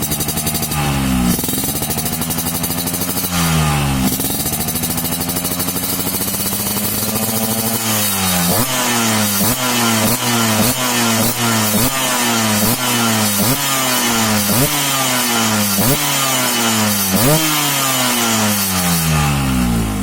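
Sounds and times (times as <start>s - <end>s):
two-stroke engine idling: 0.0s - 20.0s.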